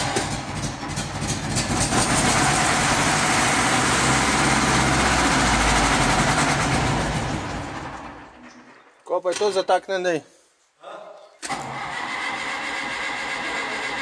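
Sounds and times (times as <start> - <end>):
diesel tractor engine starting: 0.0 - 8.7, 11.4 - 14.0.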